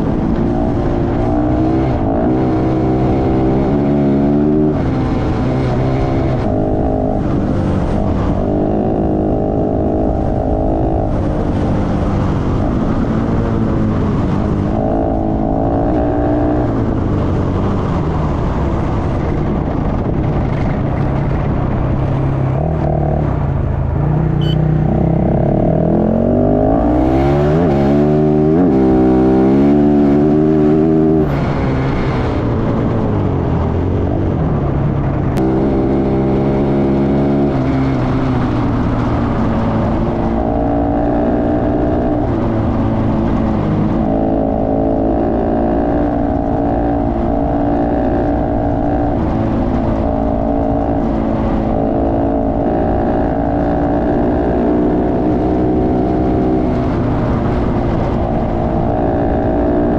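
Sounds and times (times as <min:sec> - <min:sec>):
motorcycle engine: 0:00.0 - 0:59.9
wind and road noise: 0:00.0 - 0:59.9.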